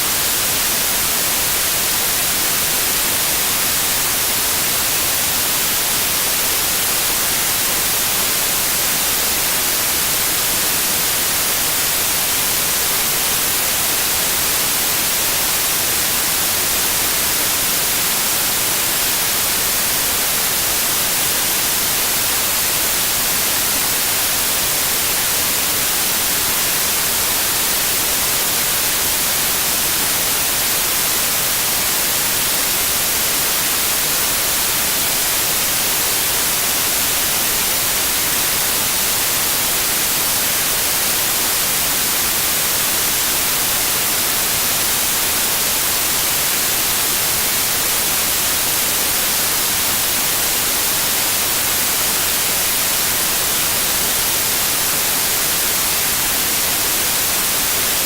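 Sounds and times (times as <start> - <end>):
white noise: 0.0 - 58.0.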